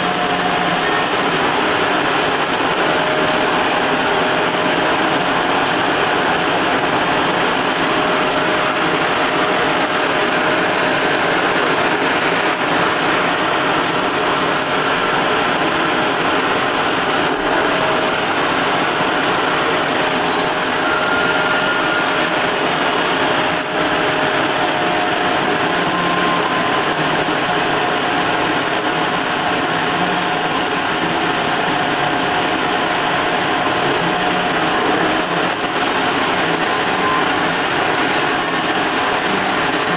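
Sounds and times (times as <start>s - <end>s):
router spindle cutting aluminium: 0.0s - 39.9s.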